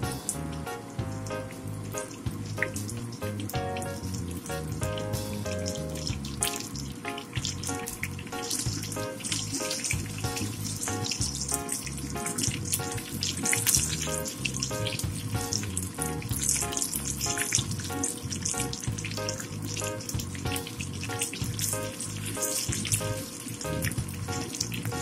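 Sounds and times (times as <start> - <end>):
background music with beat: 0.0 - 25.0
fritters sizzling in oil: 0.0 - 25.0.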